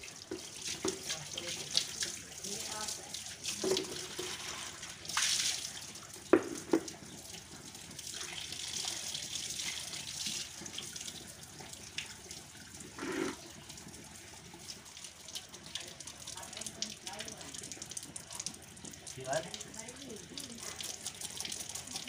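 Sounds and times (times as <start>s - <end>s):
bucket emptied in a gush: 0.0s - 22.0s
water splashing from a tap: 0.0s - 22.0s.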